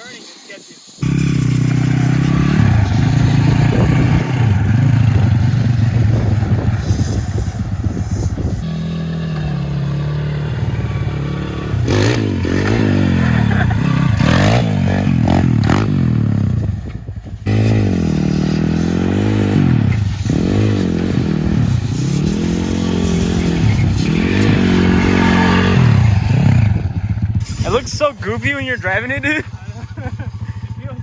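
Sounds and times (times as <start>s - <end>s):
small motorbike engine revving: 1.0s - 31.0s.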